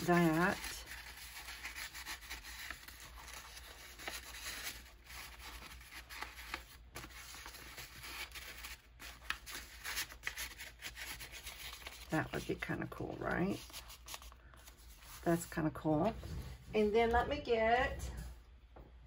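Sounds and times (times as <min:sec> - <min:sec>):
paper rustling and scraping: 0:00.0 - 0:16.7.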